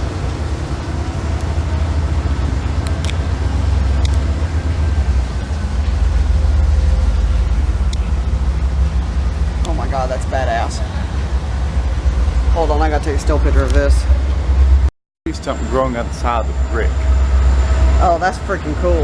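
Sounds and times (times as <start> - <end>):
heavy vehicles passing: 0.0 - 19.0.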